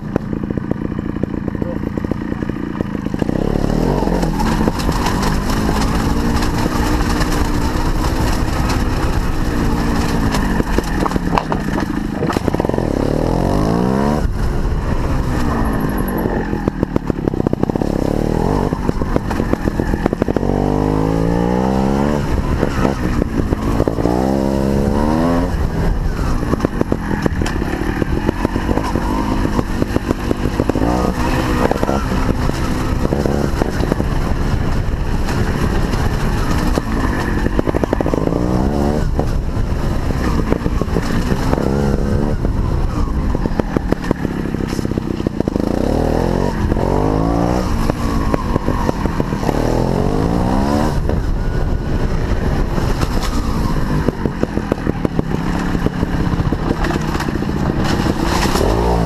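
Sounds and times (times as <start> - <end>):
constant rumble: 0.0 - 59.0
motorcycle engine revving: 0.0 - 59.0.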